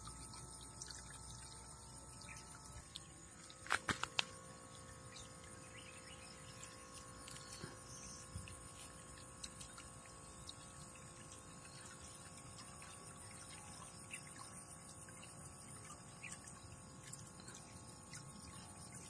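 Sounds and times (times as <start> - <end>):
small electric motor humming: 0.0 - 19.0.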